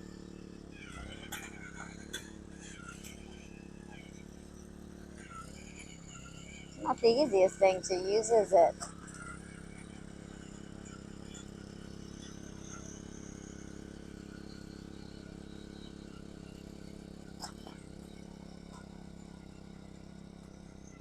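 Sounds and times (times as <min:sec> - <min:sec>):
small gasoline engine running: 0:00.0 - 0:21.0.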